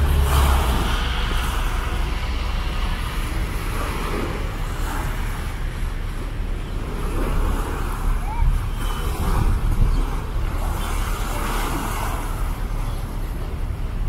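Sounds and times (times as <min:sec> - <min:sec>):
traffic on wet road: 0:00.0 - 0:14.0.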